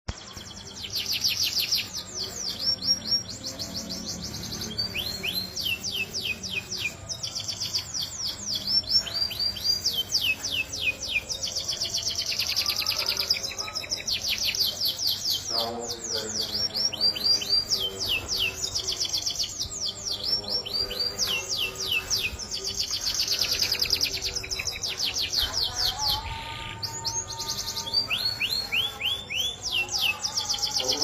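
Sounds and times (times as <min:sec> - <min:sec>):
canary singing: 0:00.1 - 0:31.0.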